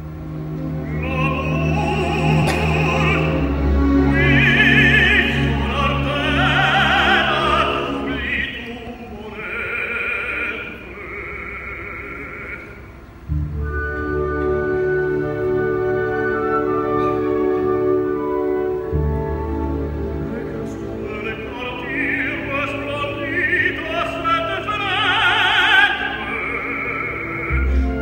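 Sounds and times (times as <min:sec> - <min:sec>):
orchestra playing: 0:00.0 - 0:11.0, 0:12.8 - 0:28.0
tenor singing with vibrato: 0:00.4 - 0:28.0.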